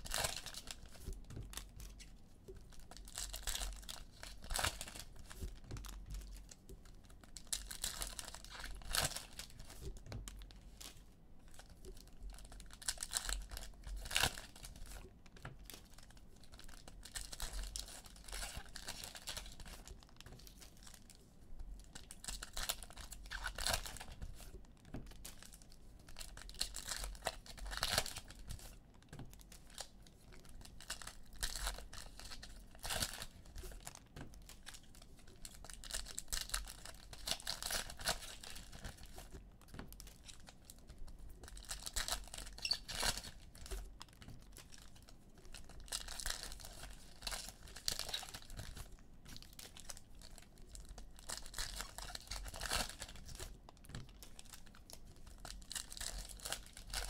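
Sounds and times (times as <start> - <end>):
wrappers torn and crinkled: 0.0 - 2.0, 2.7 - 9.9, 11.5 - 21.2, 21.9 - 57.0.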